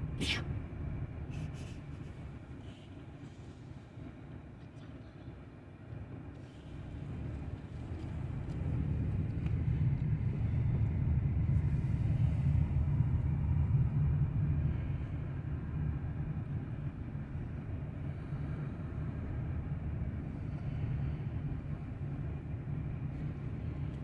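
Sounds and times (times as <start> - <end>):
low vehicle rumble: 0.0 - 24.0.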